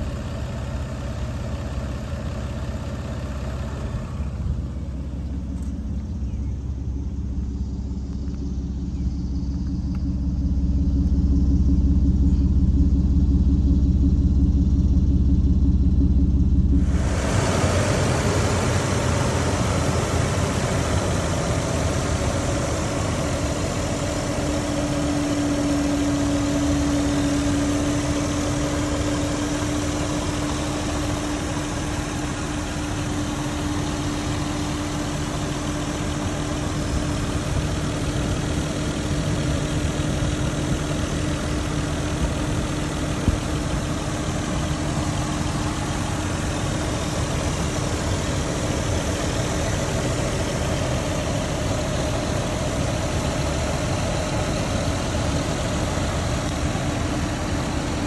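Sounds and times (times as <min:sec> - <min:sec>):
car engine idling: 0:00.0 - 0:58.0
steady whine: 0:00.0 - 0:58.0.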